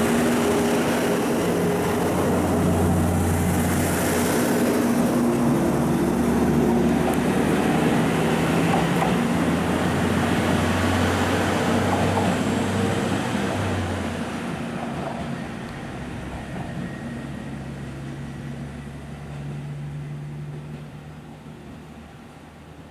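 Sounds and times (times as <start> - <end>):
diesel railcar engine: 0.0 - 22.9.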